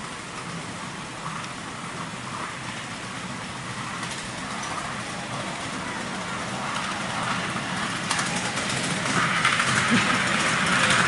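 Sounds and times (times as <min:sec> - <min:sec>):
miniature steam locomotive running: 0:00.0 - 0:11.0.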